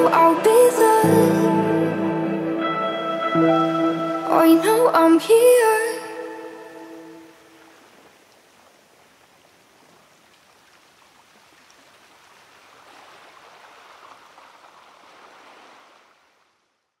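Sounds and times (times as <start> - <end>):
faint rushing water: 0.0 - 17.0.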